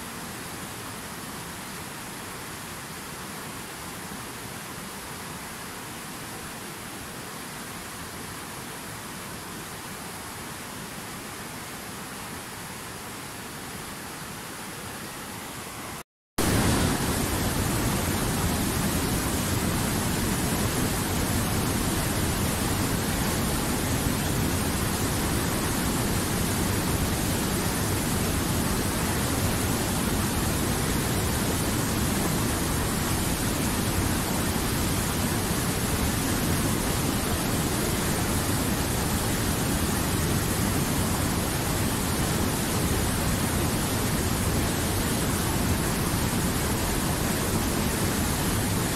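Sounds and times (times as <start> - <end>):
river rushing over boulders: 0.0 - 48.9.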